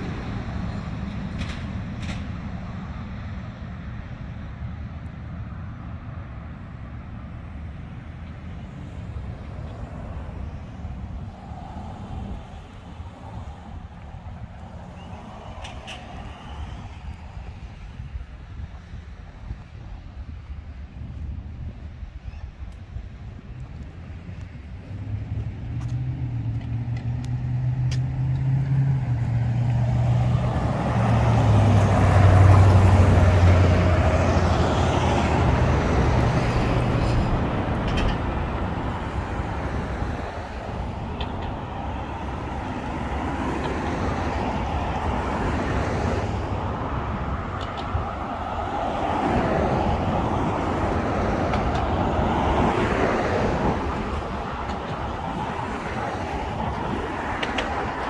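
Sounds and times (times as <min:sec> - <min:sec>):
low engine hum: 0:00.0 - 0:58.0
road and wind noise: 0:00.0 - 0:58.0.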